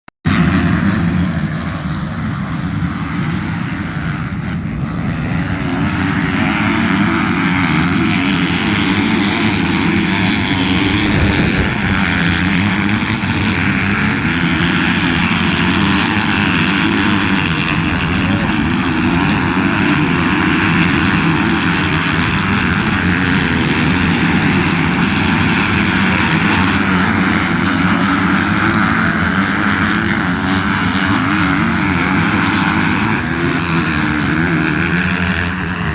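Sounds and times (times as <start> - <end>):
motocross bike engines running: 0.3 - 35.9.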